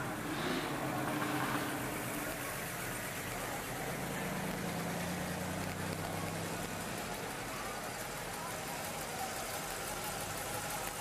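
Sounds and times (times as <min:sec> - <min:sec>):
car engine driving slowly past: 0:00.0 - 0:11.0
lower steady car engine: 0:00.0 - 0:11.0.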